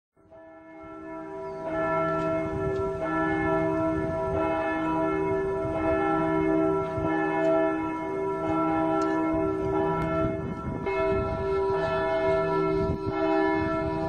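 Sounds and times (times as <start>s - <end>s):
church bells ringing: 0.2s - 14.0s.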